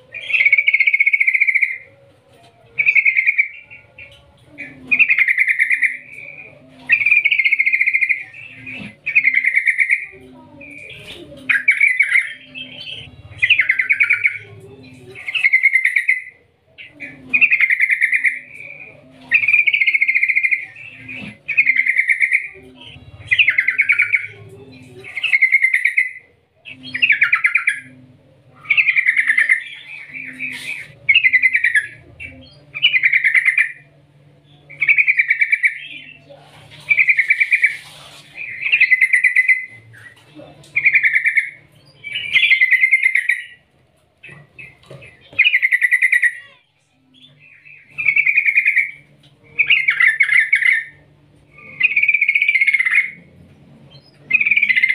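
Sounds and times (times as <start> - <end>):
bird song trills: 0.0 - 54.9.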